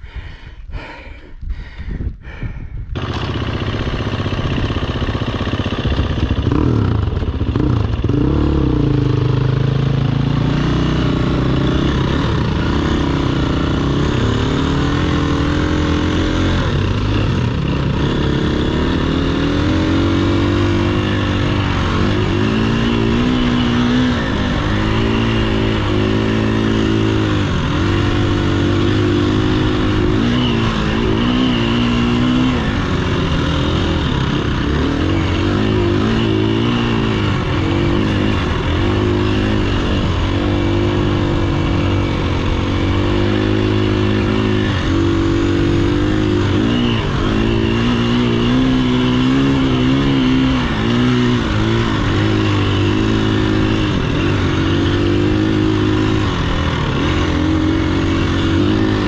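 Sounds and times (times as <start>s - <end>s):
off-road motorcycle engine revving: 2.3s - 59.0s.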